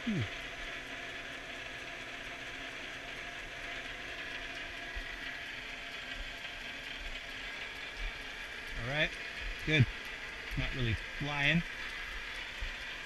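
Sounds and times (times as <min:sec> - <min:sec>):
lathe gear whir and chatter: 0:00.0 - 0:13.0.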